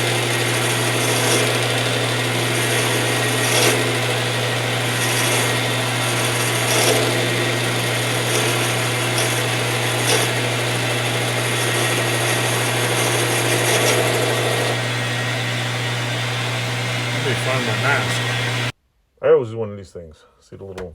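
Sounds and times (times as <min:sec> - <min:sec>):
lathe motor humming: 0:00.0 - 0:18.7
tool scraping turning metal: 0:00.0 - 0:18.7.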